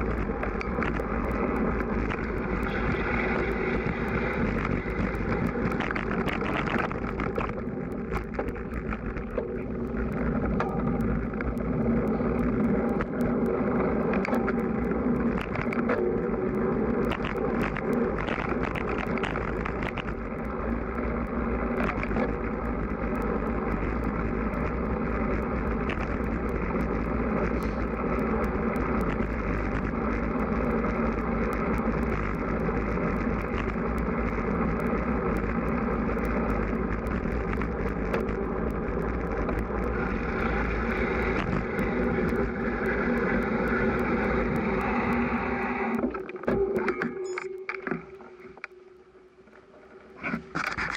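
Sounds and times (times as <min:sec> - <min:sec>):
bike running noise: 0:00.0 - 0:46.9.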